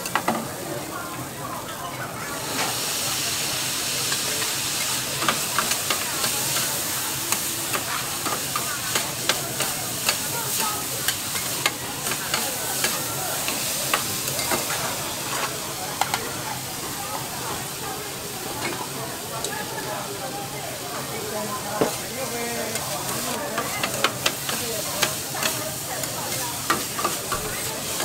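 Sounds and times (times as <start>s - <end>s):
noodles sizzling on a griddle: 0.0s - 28.0s.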